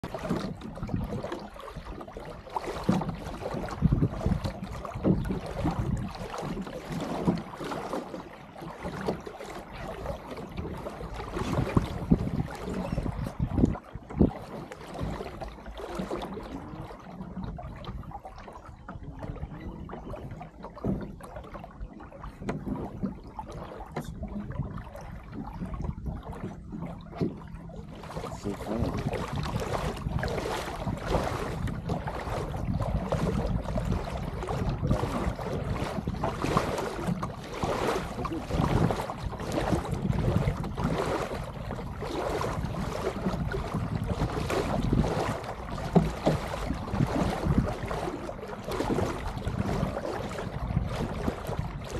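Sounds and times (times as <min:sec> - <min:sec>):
water splashing along hull: 0:00.0 - 0:51.9
wind buffeting microphone: 0:02.8 - 0:07.5, 0:10.4 - 0:21.4, 0:22.3 - 0:51.9.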